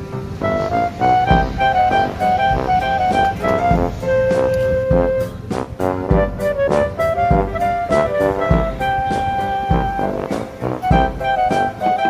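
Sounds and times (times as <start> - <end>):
instrumental music with drum beat: 0.0 - 12.0.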